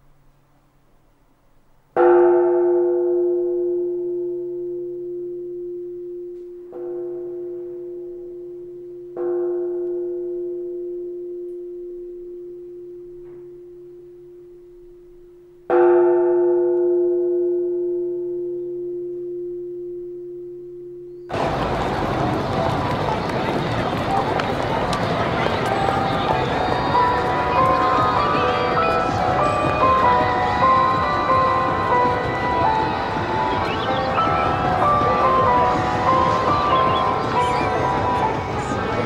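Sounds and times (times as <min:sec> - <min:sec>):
temple bell struck and ringing: 0:02.0 - 0:21.7, 0:24.4 - 0:39.0.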